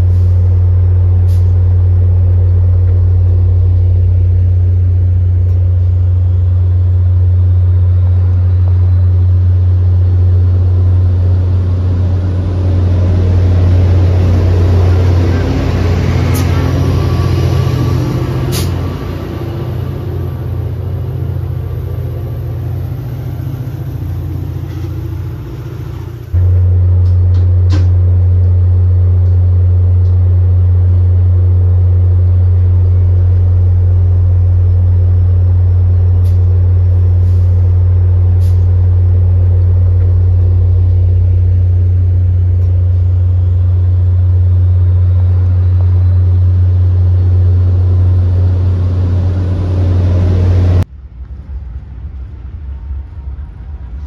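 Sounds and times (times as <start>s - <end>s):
diesel locomotive passing: 0.0s - 54.0s
low locomotive drone: 0.0s - 54.0s.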